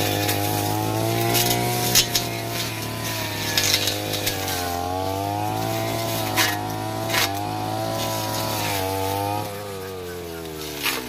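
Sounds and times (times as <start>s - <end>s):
brush cutter engine high revs: 0.0s - 11.0s.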